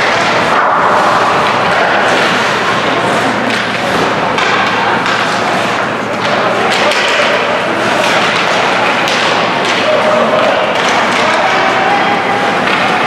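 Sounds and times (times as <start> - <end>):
thuds from sticks and puck: 0.0 - 11.7
rink and crowd noise: 0.0 - 13.0.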